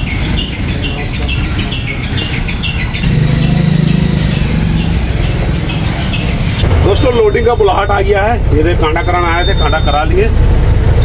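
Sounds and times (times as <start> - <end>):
birds chirping: 0.0 - 11.0
truck engine humming: 0.0 - 11.0.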